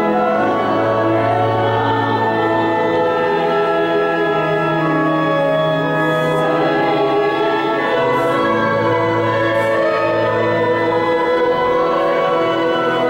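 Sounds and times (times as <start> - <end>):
choir singing sustained chords: 0.0 - 13.0
instrumental accompaniment: 0.0 - 13.0.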